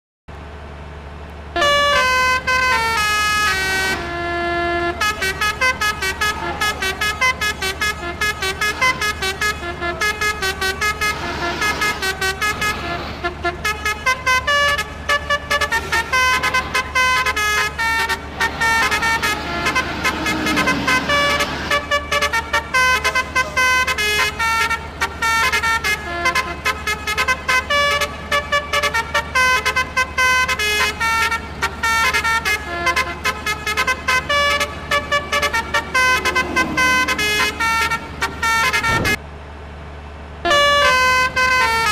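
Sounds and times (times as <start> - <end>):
multi-tone vehicle horn melody: 1.6 - 39.2, 40.4 - 41.9.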